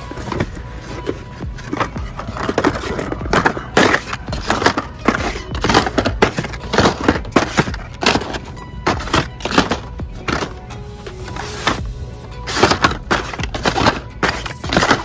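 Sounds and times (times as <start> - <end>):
blister-packed toy cars clacking: 0.0 - 15.0.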